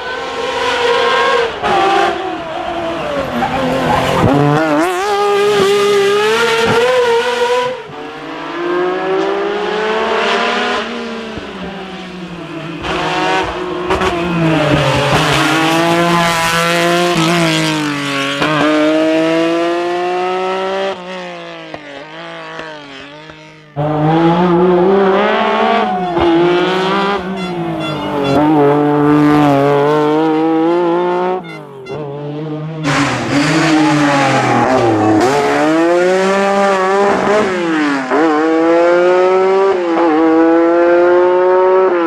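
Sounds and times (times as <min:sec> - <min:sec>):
rally car engine revving hard: 0:00.0 - 0:42.0.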